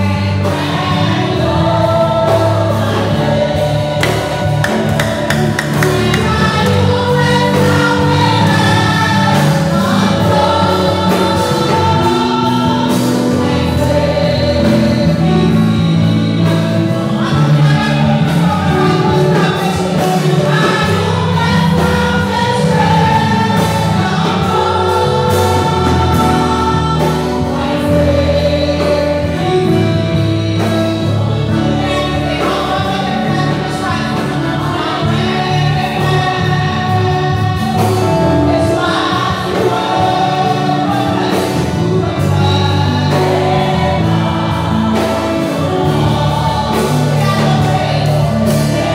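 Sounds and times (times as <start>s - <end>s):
congregation singing worship song: 0.0s - 48.9s.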